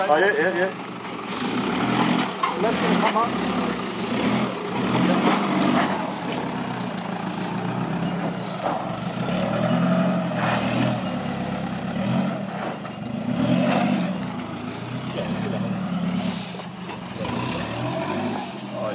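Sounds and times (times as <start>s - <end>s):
diesel truck engine revving: 0.0s - 18.9s.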